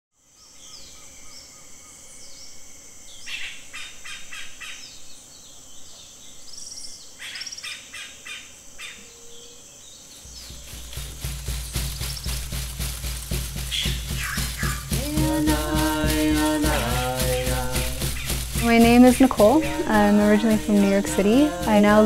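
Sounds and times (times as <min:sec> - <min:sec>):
birds calling: 0:03.2 - 0:22.0.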